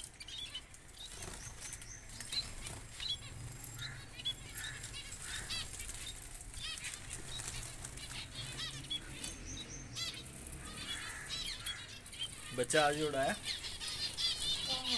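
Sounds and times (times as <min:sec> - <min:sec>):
finches chirping: 0:00.0 - 0:14.9.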